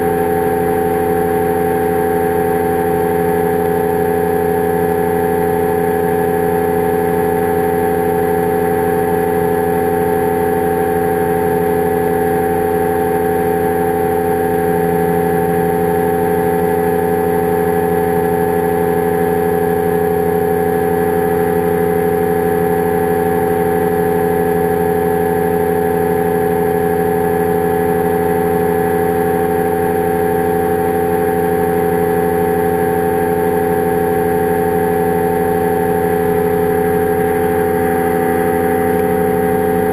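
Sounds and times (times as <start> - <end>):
powered parachute engine droning: 0.0 - 39.9.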